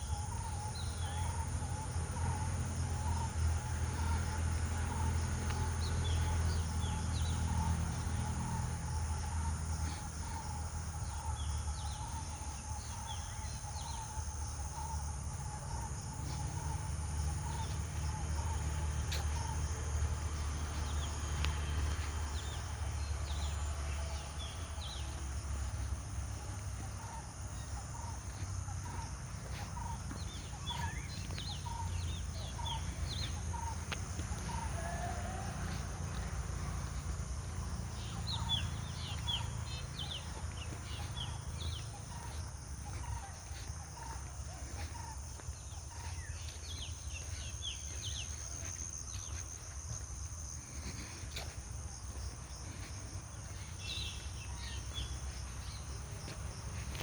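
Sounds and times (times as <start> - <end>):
birds chirping: 0.0 - 35.4, 36.0 - 57.0.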